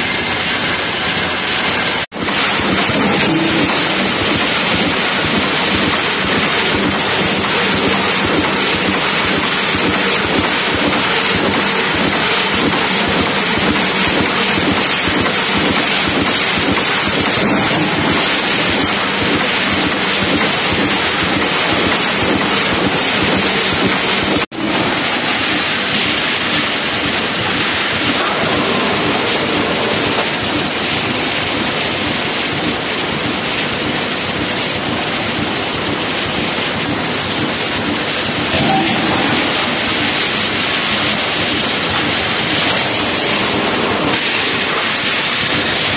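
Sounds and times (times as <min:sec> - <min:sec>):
industrial machine clatter and rumble: 0:00.0 - 0:45.9.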